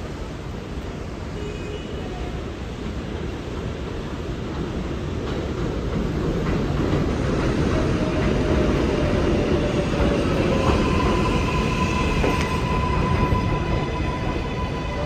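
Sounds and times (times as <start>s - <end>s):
train pulling into station: 0.0s - 15.0s.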